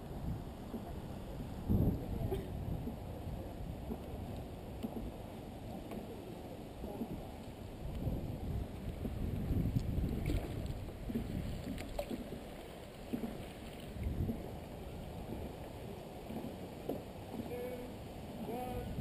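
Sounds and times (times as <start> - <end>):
water lapping against boat hull: 0.0 - 19.0
wind rumbling on microphone: 0.0 - 19.0.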